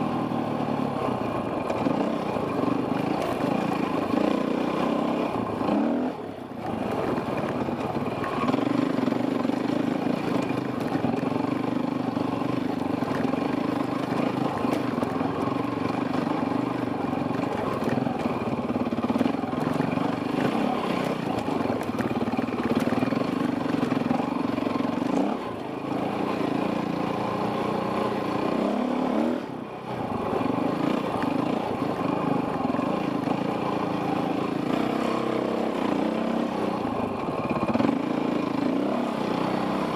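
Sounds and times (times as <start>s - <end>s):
dirt bike engine under throttle: 0.0s - 39.9s.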